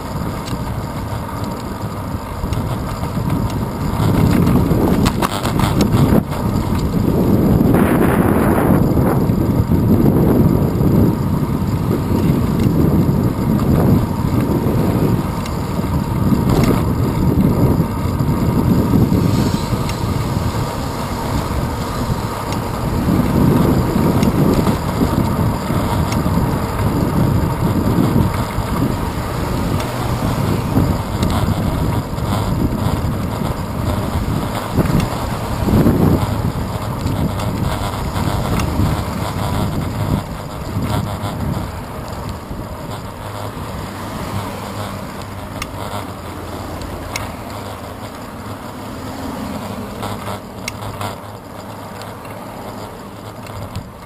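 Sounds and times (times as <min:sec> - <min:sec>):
road noise: 0:00.0 - 0:54.0
wind buffeting microphone: 0:00.0 - 0:54.0.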